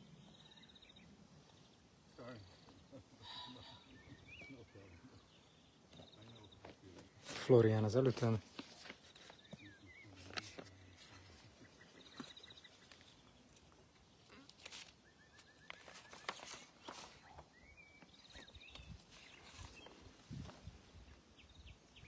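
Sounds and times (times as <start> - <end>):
faint trilled birdsong: 0.0 - 22.0.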